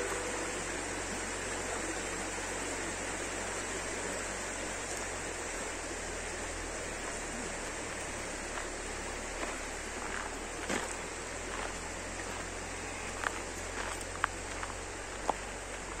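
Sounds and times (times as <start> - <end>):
stream rippling over stones: 0.0 - 16.0.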